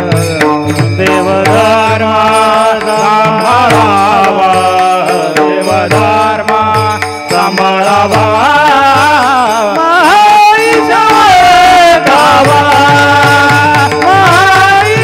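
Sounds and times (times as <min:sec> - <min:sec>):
drum beat: 0:00.0 - 0:15.0
person singing devotional melody: 0:00.0 - 0:15.0.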